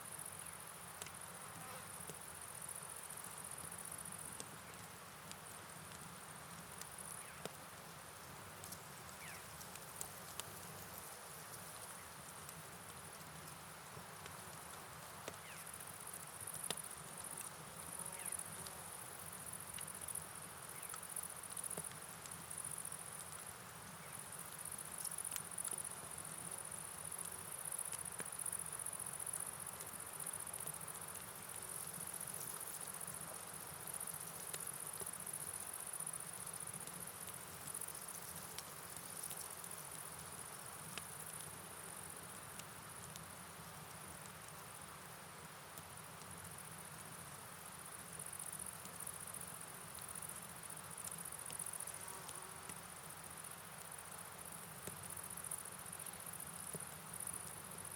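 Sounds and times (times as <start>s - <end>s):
insects chirring: 6.7s - 13.8s, 14.4s - 45.2s, 46.1s - 57.9s.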